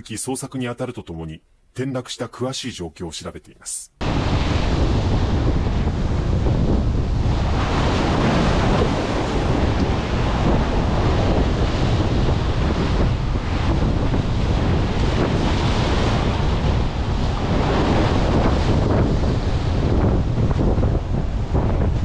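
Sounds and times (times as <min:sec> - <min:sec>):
sea waves washing on concrete: 0:04.0 - 0:22.0
wind rumble on microphone: 0:04.0 - 0:22.0.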